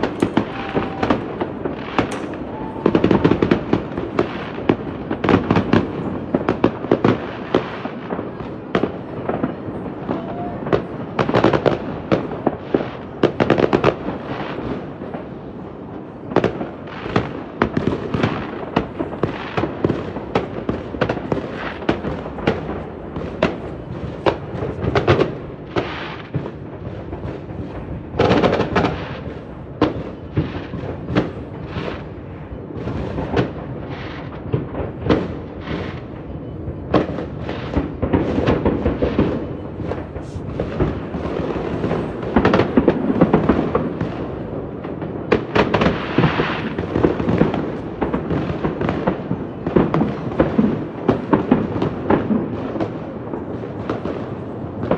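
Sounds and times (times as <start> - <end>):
rapid firework pops: 0.0 - 15.3, 16.3 - 54.9
distant fireworks bangs and crackling: 0.0 - 54.9.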